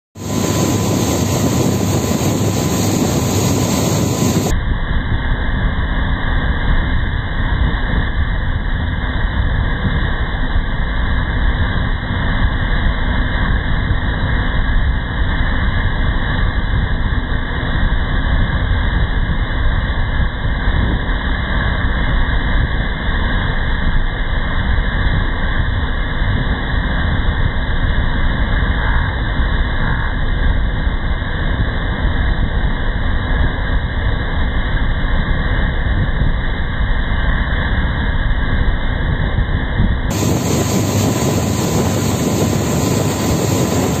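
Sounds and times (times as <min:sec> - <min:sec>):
motorboat motor drone: 0:00.2 - 0:44.0
rush of wind and water: 0:00.2 - 0:44.0.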